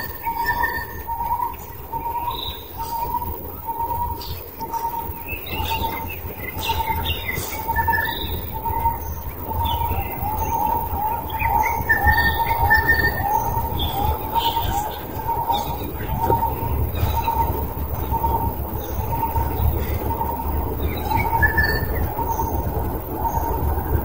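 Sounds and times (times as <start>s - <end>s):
birds chirping: 0.0s - 24.0s
low rumble: 0.0s - 24.0s.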